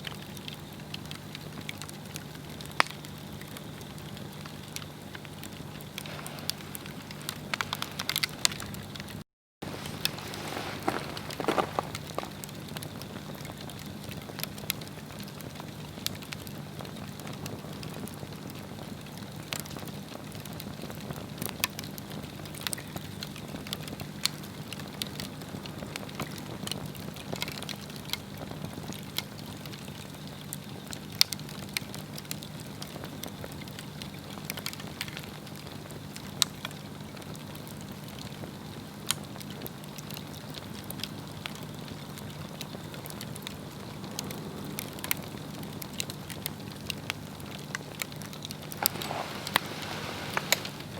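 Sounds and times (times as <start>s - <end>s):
log fire crackling and popping: 0.0s - 50.9s.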